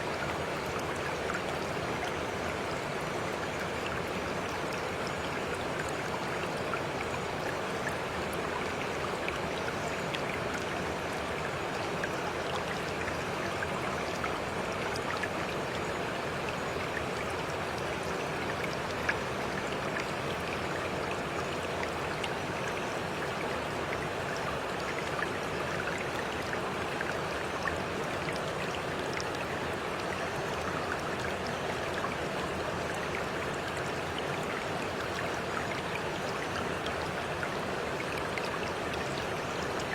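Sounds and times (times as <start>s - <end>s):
water flowing in a stream: 0.0s - 39.9s.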